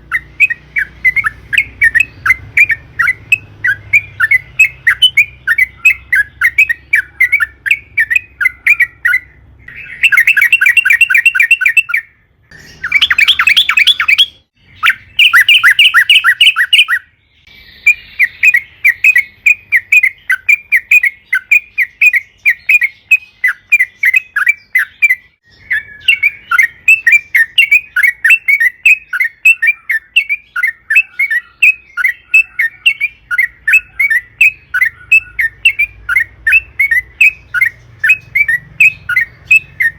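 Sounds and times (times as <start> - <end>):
bulbul singing chattering notes: 0.0 - 39.9.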